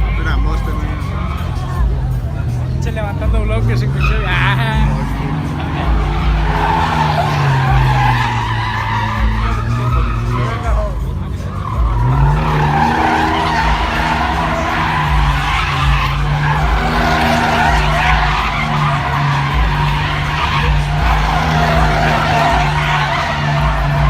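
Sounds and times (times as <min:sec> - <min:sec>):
car engine running: 0:00.0 - 0:24.0
car tires screeching: 0:00.0 - 0:24.0.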